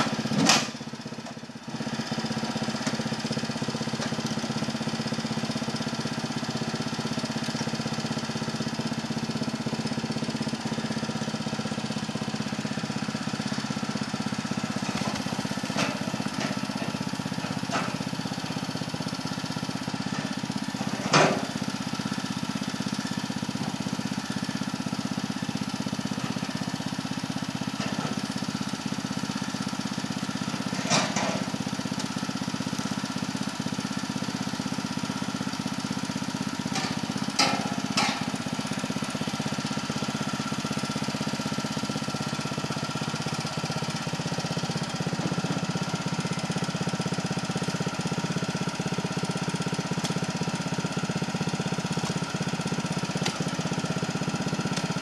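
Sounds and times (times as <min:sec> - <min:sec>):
small engine idling: 0:00.0 - 0:55.0.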